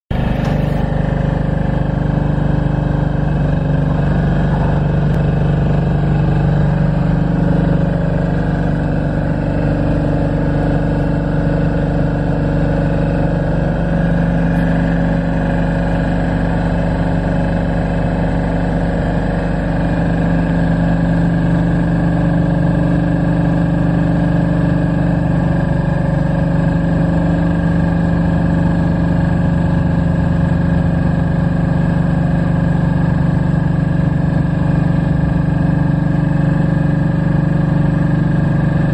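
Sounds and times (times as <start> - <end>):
diesel generator running: 0.1 - 38.9.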